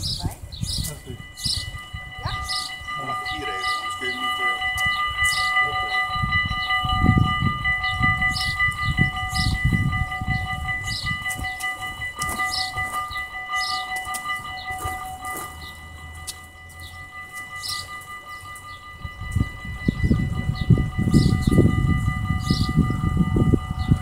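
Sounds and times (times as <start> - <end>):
level crossing warning bells: 0.0 - 24.0.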